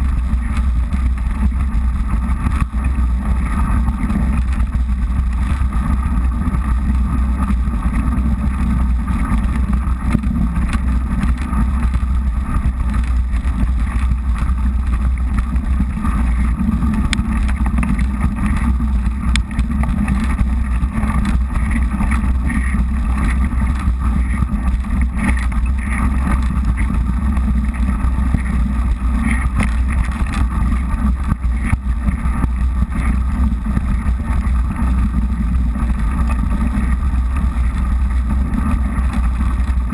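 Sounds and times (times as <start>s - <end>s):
bike tyres rumbling on crunchy trail: 0.0s - 39.9s
wind buffeting microphone: 0.0s - 39.9s.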